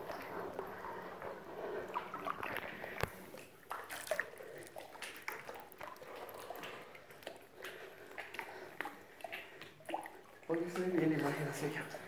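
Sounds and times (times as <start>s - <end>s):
water sloshing and dripping: 0.0s - 12.0s.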